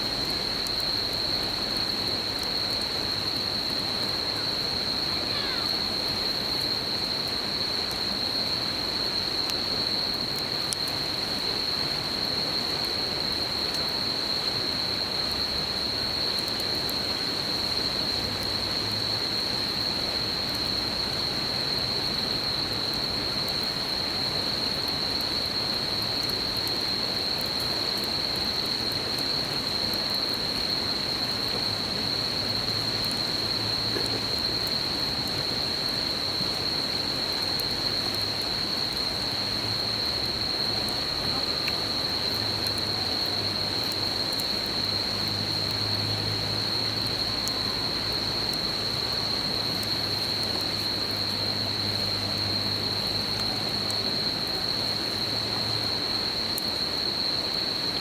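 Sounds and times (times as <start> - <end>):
faint campfire crackles: 0.0 - 58.0
insects trilling: 0.0 - 58.0.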